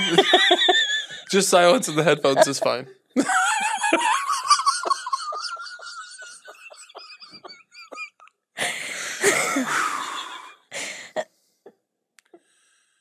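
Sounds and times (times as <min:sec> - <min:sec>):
people laughing: 0:00.0 - 0:10.5.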